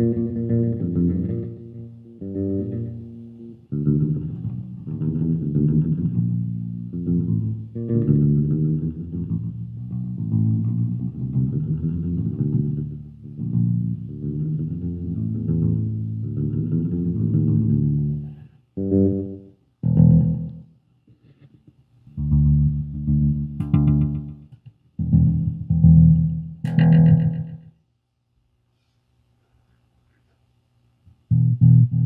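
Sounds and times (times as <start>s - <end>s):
bass guitar notes with delay: 0.0s - 20.6s, 22.2s - 27.6s, 31.3s - 32.0s.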